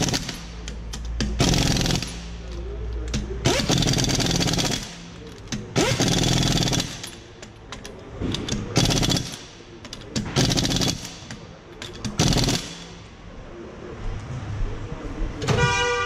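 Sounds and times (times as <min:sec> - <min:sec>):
impact wrench rattling: 0:00.0 - 0:13.1.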